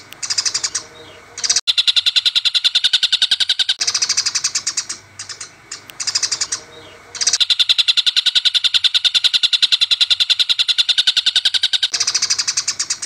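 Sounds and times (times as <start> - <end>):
rough varied bird calls: 0.0 - 13.0
sparrows chirping: 0.0 - 13.0.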